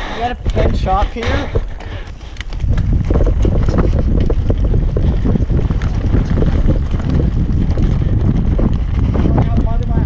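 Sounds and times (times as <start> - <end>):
bike clicks and rattles: 0.0 - 10.0
wind buffeting camera: 0.0 - 10.0.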